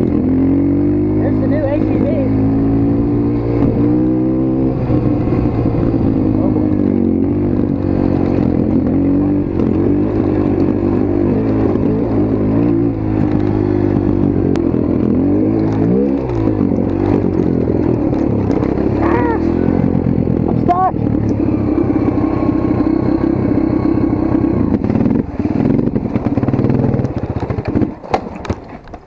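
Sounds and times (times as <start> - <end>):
motorcycle engine revving: 0.0 - 28.8.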